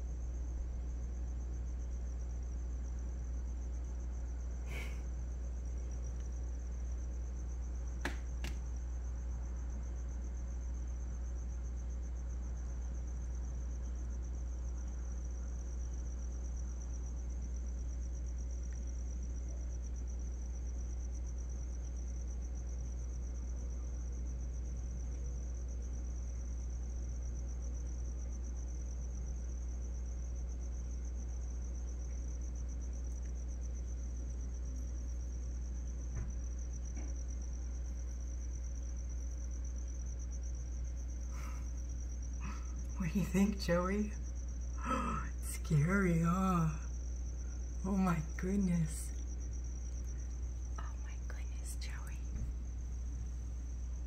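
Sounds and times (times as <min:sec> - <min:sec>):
crickets chirping: 0:00.0 - 0:54.0
low steady hum: 0:00.0 - 0:54.0.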